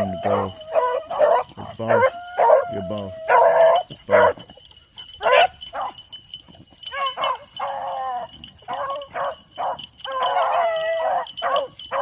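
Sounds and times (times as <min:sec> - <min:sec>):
dogs baying: 0:00.0 - 0:12.0.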